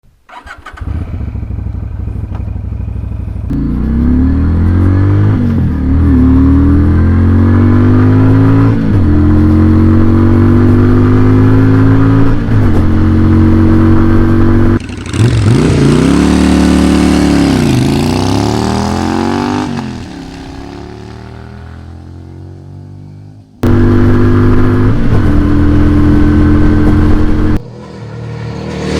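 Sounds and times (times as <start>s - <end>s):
motorcycle engine accelerating: 0.3s - 28.9s.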